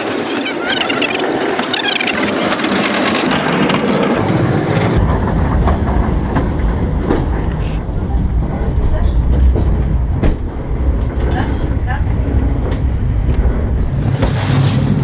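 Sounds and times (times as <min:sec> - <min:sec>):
train wagons rattling on track: 0:00.0 - 0:15.0.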